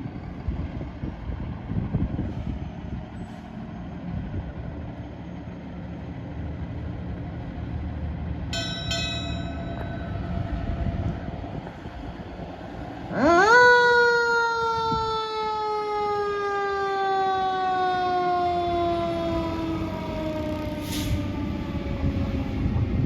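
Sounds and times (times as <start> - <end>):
fire engine rumbling: 0.0 - 23.0.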